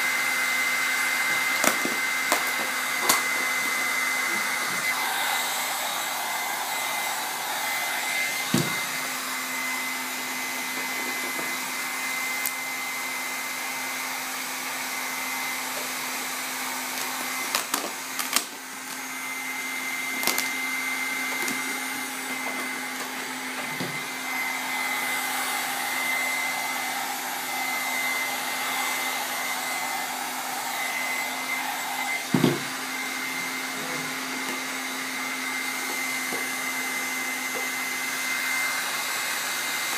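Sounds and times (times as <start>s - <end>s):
heat gun blowing: 0.0s - 39.9s.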